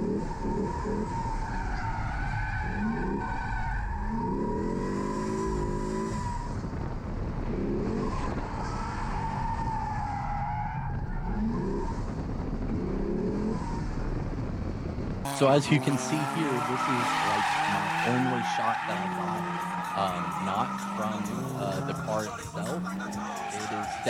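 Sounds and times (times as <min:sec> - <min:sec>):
car engine revving: 0:00.0 - 0:14.1, 0:15.2 - 0:24.0
tires squealing: 0:00.0 - 0:14.1, 0:15.3 - 0:24.0.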